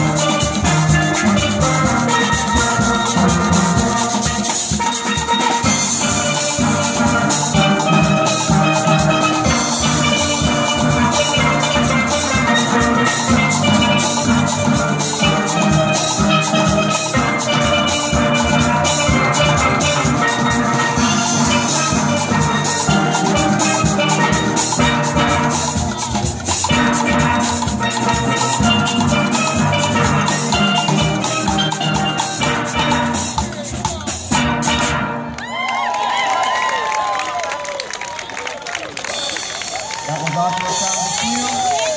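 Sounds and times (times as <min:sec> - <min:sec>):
steel pans playing: 0:00.0 - 0:35.5
steady drum beat: 0:00.0 - 0:36.1, 0:39.0 - 0:41.9.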